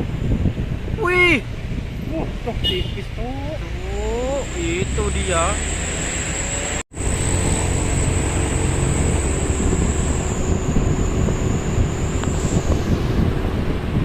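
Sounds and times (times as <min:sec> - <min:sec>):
road noise: 0:00.0 - 0:14.0
vehicle engine rumble: 0:00.0 - 0:14.0
high-pitched whine: 0:02.1 - 0:13.5.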